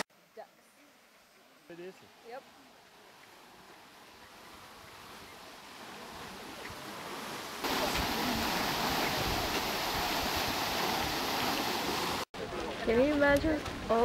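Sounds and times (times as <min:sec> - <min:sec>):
water rushing and splashing: 0:01.4 - 0:14.0.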